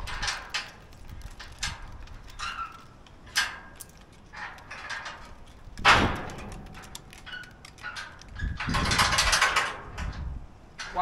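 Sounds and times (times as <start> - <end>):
metal clips clanking and rattling: 0.0 - 10.2.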